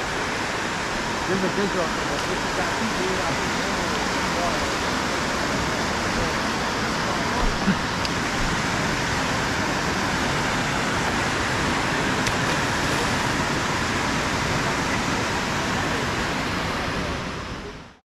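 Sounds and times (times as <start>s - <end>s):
water rushing over a dam: 0.0s - 18.0s.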